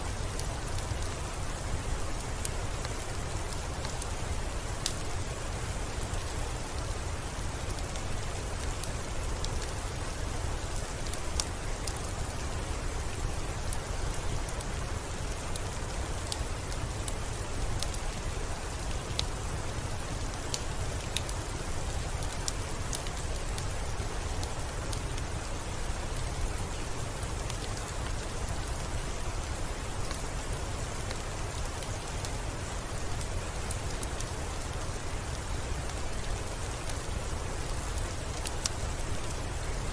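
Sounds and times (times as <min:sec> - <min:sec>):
steady falling rain: 0:00.0 - 0:39.9
wood fire crackling: 0:00.1 - 0:39.9.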